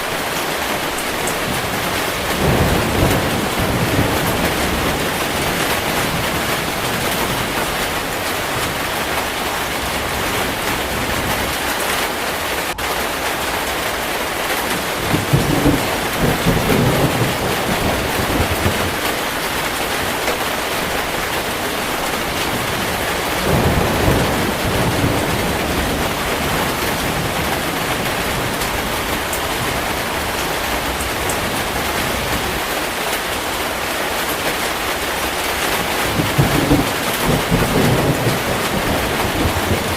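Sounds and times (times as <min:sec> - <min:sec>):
heavy rain: 0:00.0 - 0:39.9
low rolls of thunder: 0:01.3 - 0:11.5, 0:14.7 - 0:32.6, 0:36.0 - 0:39.9.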